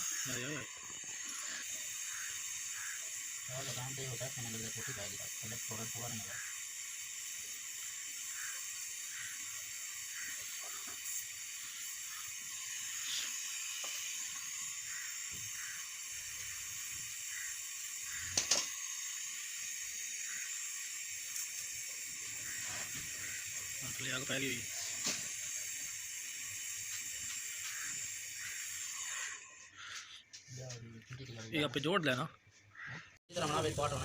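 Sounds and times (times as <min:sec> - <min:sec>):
steady high hiss: 0:00.0 - 0:29.4.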